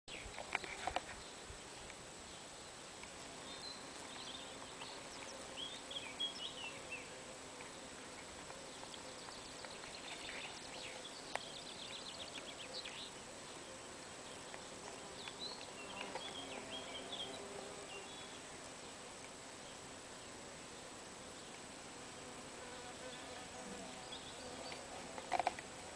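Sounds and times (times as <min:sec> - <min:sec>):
small birds twittering: 0:00.1 - 0:21.7, 0:22.6 - 0:25.9.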